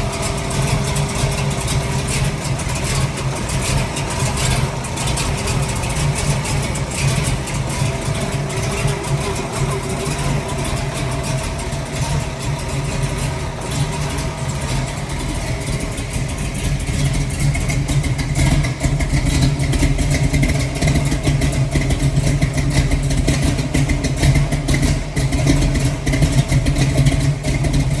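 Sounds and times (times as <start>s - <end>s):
vee eight engine running: 0.0s - 28.0s.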